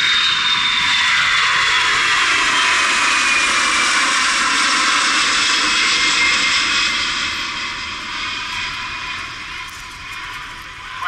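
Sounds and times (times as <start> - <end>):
jet engines in flight: 0.0 - 11.0.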